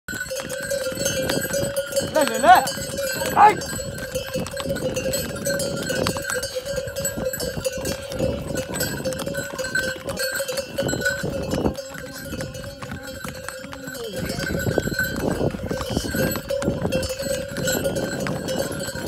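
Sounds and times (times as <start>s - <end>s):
pony harness bells ringing: 0.1s - 19.0s.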